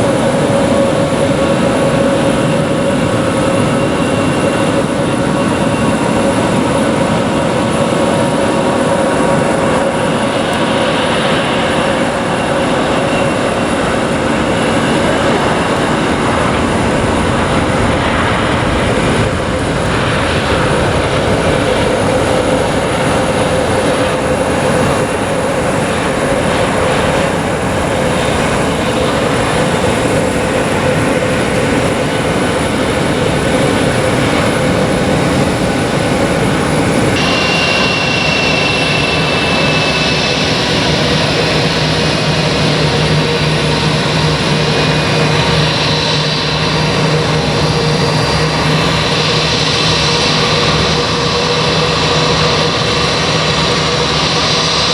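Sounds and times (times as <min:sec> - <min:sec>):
jet engines running: 0:00.0 - 0:54.9.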